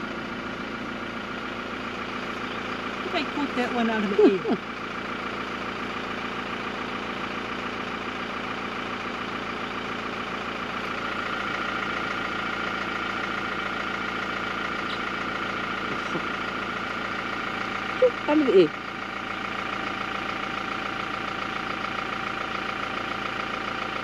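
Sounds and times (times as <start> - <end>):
pickup engine idling: 0.0 - 24.0.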